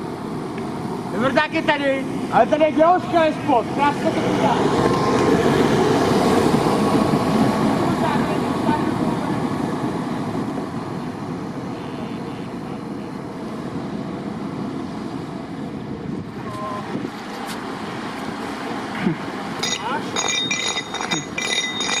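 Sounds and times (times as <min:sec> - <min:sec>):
tram rolling along track: 0:02.5 - 0:22.0.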